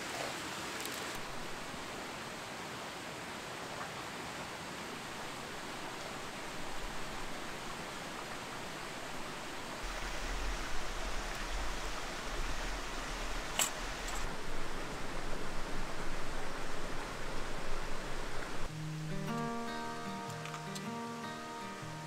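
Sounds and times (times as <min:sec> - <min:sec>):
mountain stream rushing: 0:00.0 - 0:22.0.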